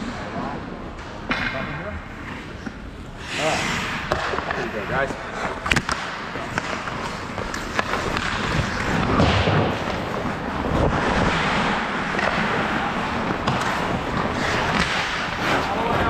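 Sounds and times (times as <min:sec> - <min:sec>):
skate blades scraping ice: 0:02.2 - 0:16.0.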